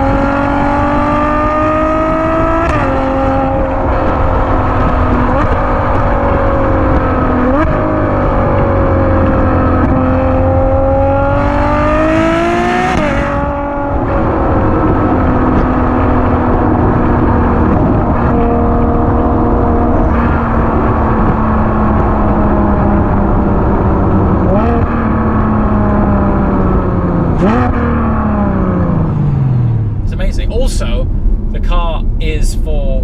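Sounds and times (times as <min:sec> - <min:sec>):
car engine accelerating: 0:00.0 - 0:33.0
road rumble: 0:00.0 - 0:33.0.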